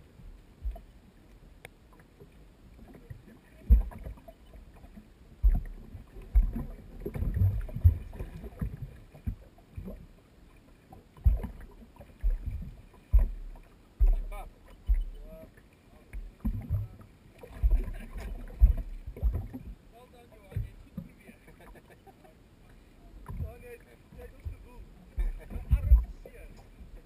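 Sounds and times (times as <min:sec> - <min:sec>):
waves slapping against hull: 0:00.0 - 0:27.0.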